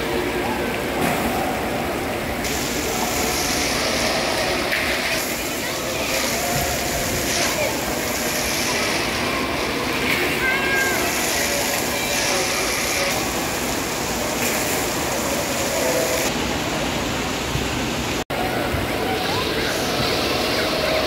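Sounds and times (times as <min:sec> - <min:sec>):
water splashing and churning: 0:00.0 - 0:21.0.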